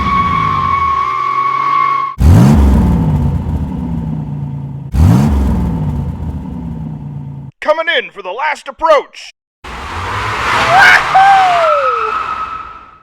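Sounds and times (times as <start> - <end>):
car engine revving: 0.0 - 7.5, 9.6 - 12.9.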